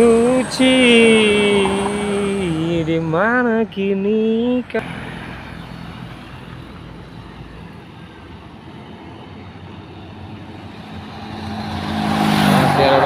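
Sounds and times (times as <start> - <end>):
truck engine running: 0.0 - 11.7
road noise: 0.0 - 13.0.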